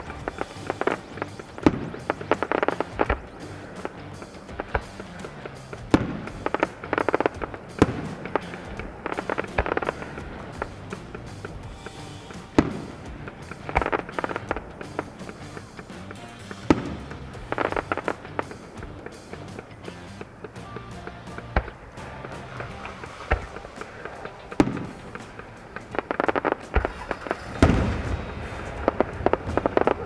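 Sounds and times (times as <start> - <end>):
background music: 0.0 - 30.0
firework shell bursts: 0.0 - 30.0
rapid firework crackling: 0.0 - 30.0.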